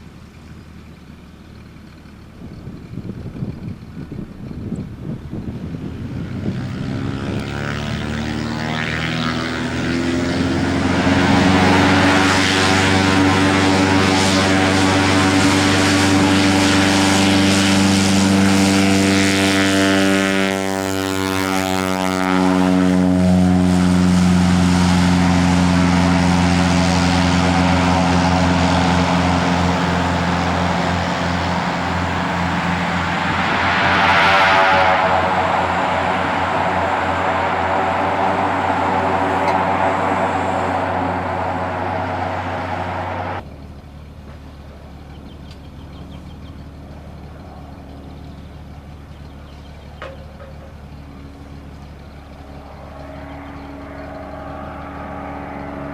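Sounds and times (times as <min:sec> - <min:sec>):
propeller plane engine drone: 0:00.0 - 0:55.9.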